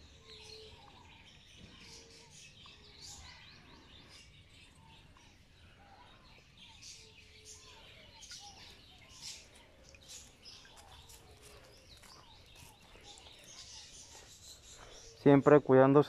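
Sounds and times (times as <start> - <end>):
faint chirping calls: 0.0 - 16.0.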